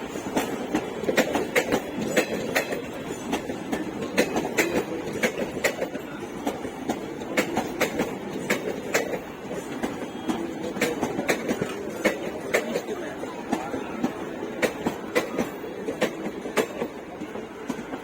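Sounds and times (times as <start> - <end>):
train wheels rumbling: 0.0 - 18.0
wheels clicking over rail joints: 0.0 - 18.0.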